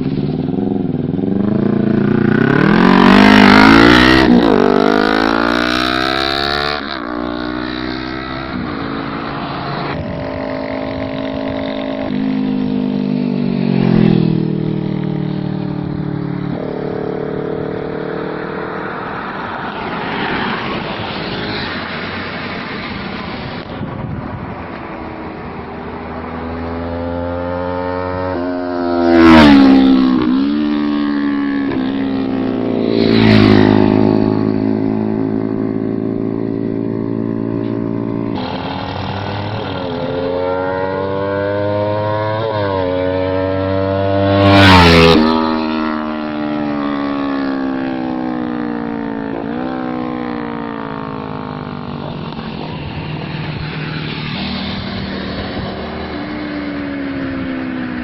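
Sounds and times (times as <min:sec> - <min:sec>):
motorcycle passing by: 0:00.0 - 0:58.0.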